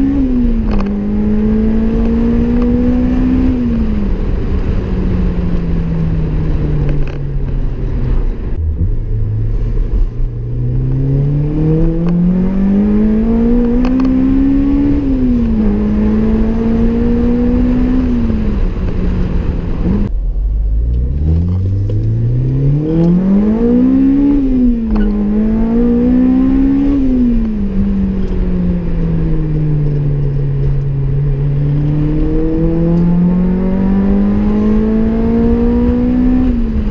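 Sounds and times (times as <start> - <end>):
car engine accelerating: 0.0 - 36.9.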